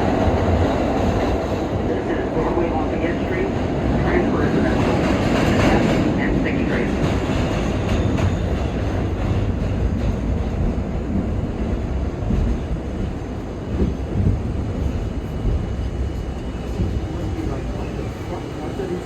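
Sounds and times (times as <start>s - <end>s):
subway train rumble and rail noise: 0.0s - 19.0s.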